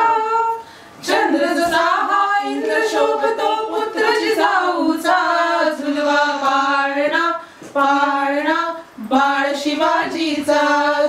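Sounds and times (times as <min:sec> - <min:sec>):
women singing unaccompanied: 0:00.0 - 0:11.0.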